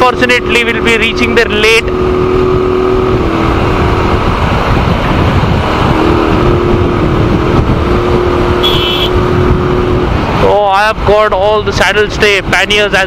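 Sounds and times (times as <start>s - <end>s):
motorcycle engine labouring: 0.0s - 12.6s
wind rushing over microphone: 0.0s - 13.0s.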